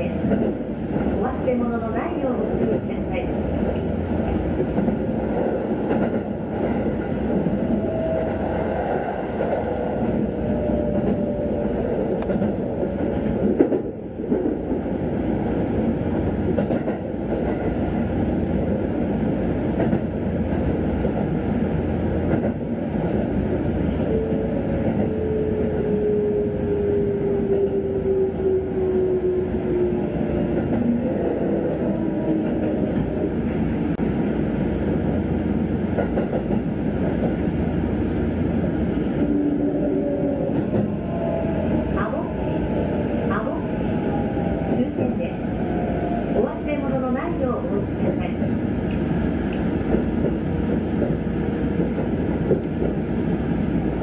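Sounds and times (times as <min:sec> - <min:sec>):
train wheels on rail: 0:00.0 - 0:54.0.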